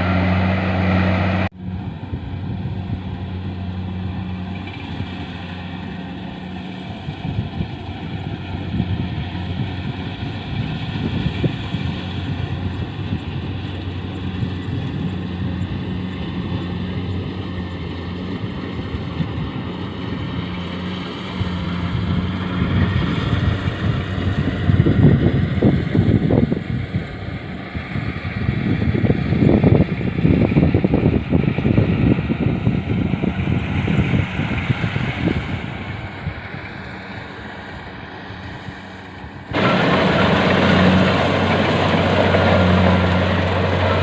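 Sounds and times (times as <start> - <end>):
machine engine humming and rattling: 0.0 - 44.0.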